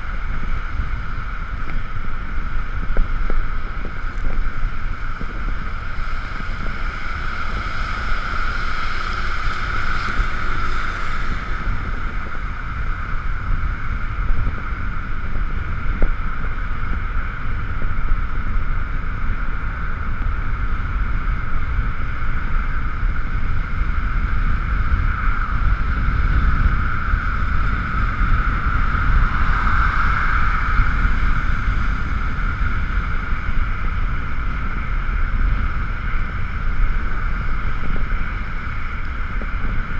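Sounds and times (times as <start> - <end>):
electric scooter whine: 0.0 - 39.9
wind rumbling on microphone: 0.0 - 39.9.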